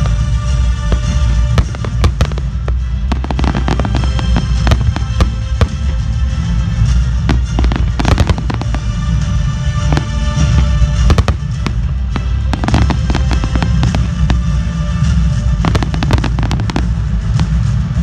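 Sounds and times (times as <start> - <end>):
continuous low rumble: 0.0 - 18.0
fireworks bangs and crackles: 0.0 - 18.0.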